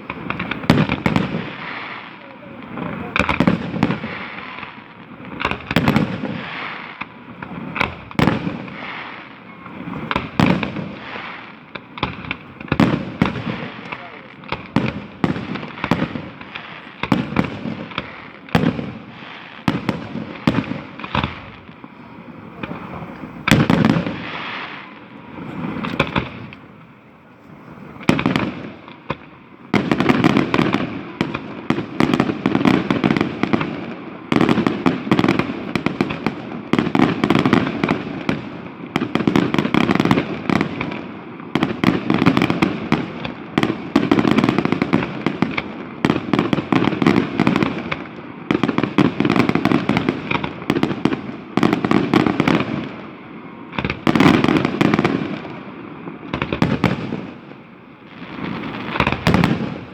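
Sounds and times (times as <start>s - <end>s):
firecrackers crackling: 0.0s - 59.9s
firework bangs: 0.0s - 59.9s.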